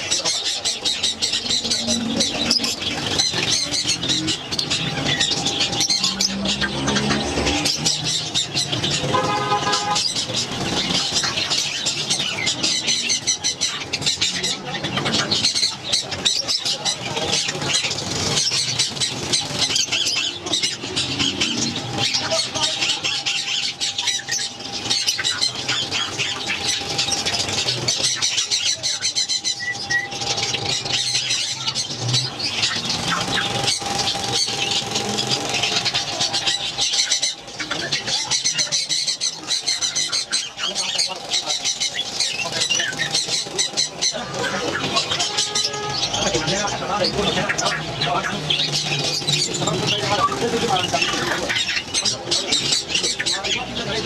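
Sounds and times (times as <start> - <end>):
caged birds chirping and chattering: 0.0 - 54.0.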